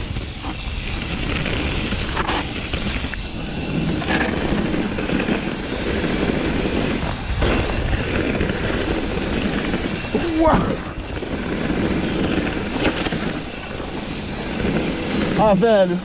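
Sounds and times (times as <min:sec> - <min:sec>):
tyres rumbling on dirt: 0:00.0 - 0:16.0
wind rushing over microphone: 0:00.0 - 0:16.0.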